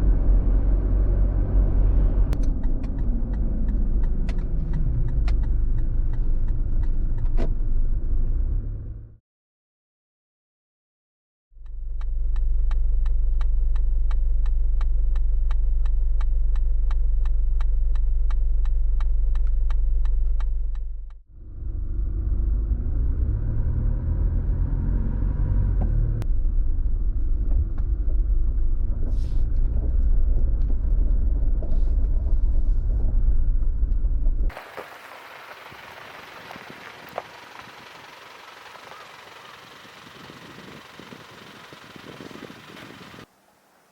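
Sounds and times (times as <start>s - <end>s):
car engine and road rumble: 0.0s - 9.2s, 11.6s - 43.9s.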